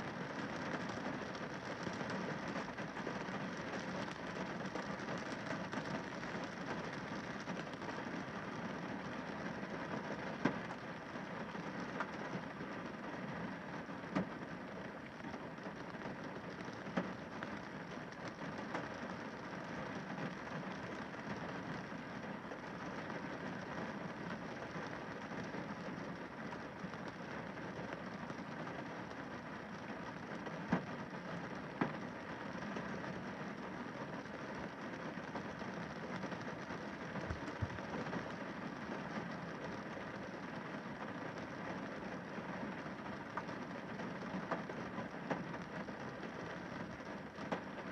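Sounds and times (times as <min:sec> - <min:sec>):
rain on car windscreen: 0:00.0 - 0:47.9.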